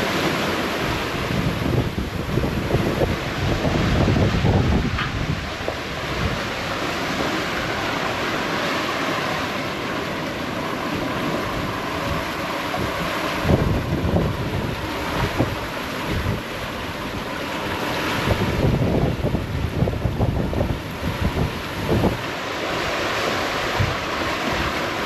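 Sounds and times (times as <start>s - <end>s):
breaking waves rushing: 0.0s - 25.0s
strong wind: 0.0s - 25.0s
wind buffeting microphone: 0.0s - 25.0s.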